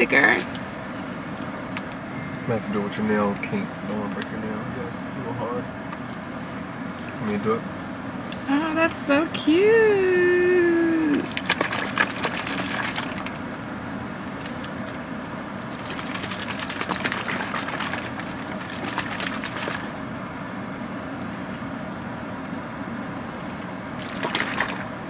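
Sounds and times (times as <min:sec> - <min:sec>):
low hum in car cabin: 0:00.0 - 0:25.0.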